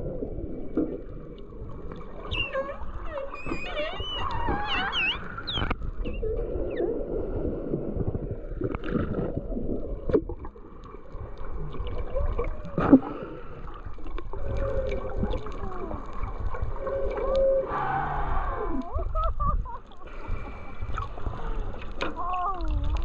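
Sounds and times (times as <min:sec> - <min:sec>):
whale song underwater: 0:00.0 - 0:23.0.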